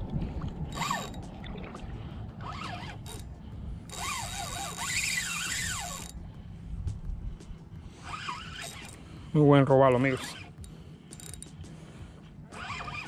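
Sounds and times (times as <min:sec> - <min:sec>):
fishing reel gears whirring: 0:00.0 - 0:01.3, 0:02.3 - 0:13.0.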